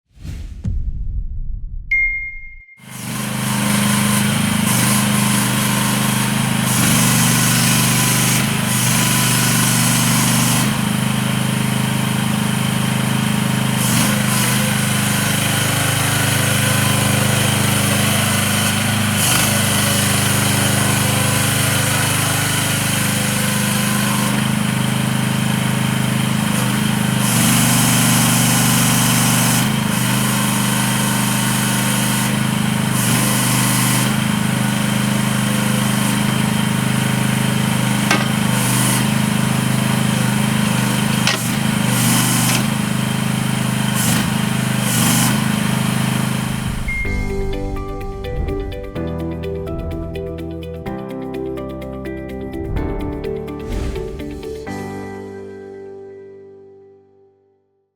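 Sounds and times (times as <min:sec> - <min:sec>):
small excavator engine running: 0:02.9 - 0:51.4.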